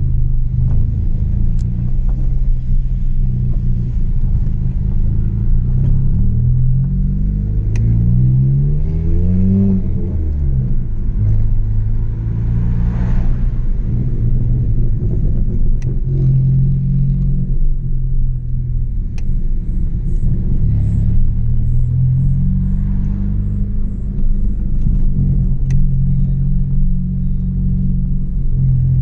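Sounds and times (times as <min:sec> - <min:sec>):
car engine drone through exhaust: 0:00.0 - 0:29.0.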